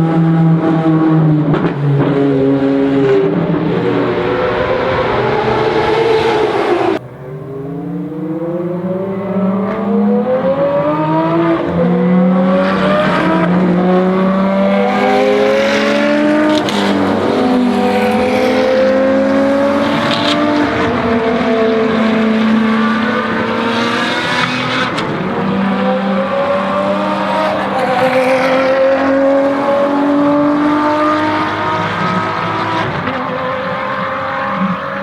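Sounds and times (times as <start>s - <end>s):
racing car engine upshifting: 0.0s - 35.0s.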